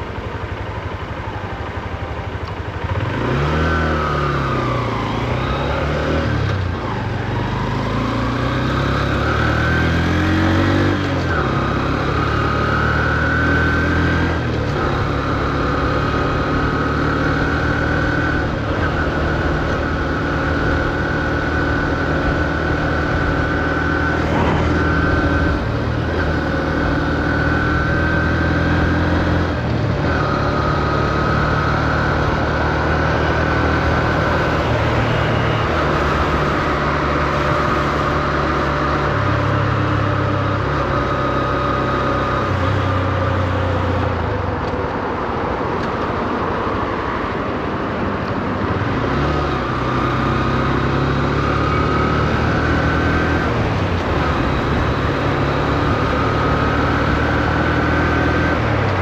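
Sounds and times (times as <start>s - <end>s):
motorcycle engine running: 0.0s - 45.9s, 47.4s - 59.0s.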